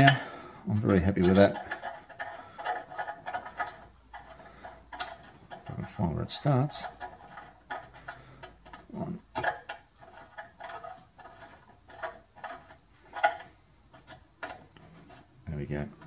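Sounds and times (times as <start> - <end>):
metal threads ticking and scraping: 0.0 - 16.0.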